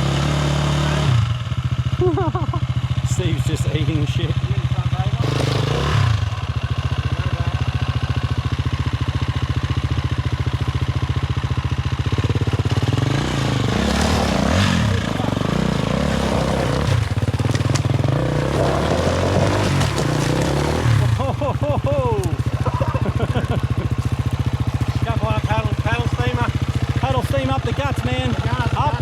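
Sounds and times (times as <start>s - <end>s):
dirt bike engine idling and revving: 0.0s - 29.0s.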